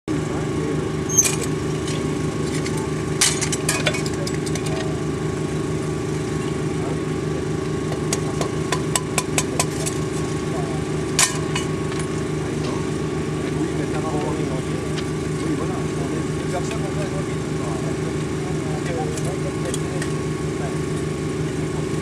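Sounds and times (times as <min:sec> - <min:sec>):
small engine running: 0:00.1 - 0:22.0.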